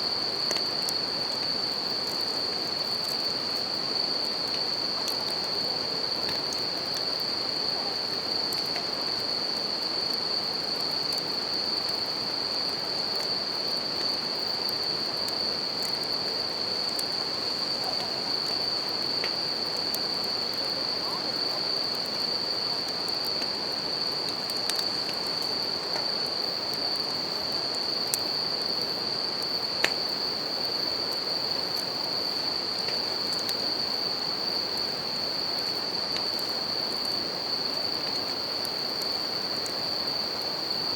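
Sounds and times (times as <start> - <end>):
crickets chirring: 0.0 - 40.9
faint campfire crackles: 0.0 - 40.9.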